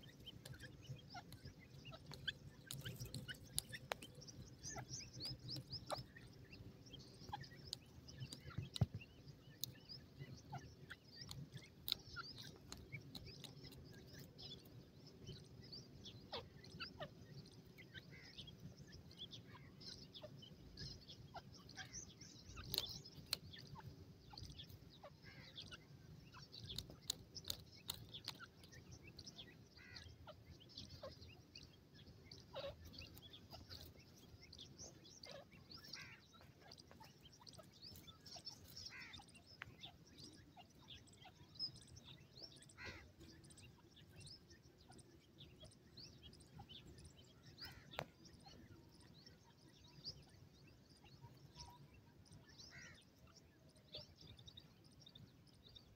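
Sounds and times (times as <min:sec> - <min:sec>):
chicks peeping: 0:00.0 - 0:55.9.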